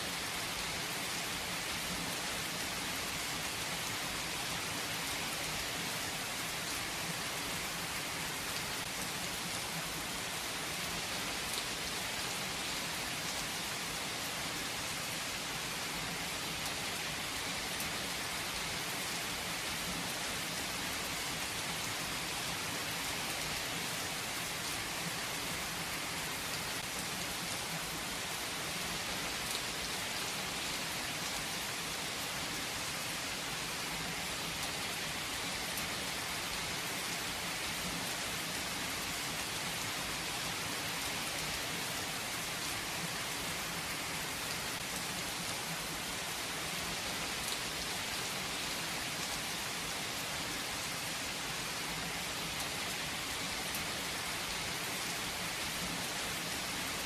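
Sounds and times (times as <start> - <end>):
rain on a hard surface: 0.0 - 57.0.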